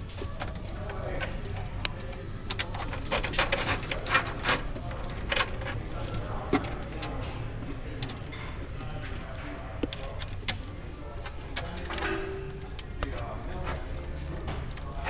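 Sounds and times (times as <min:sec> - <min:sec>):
parts being handled clicking: 0:00.0 - 0:15.0
steady low hum: 0:00.0 - 0:15.0.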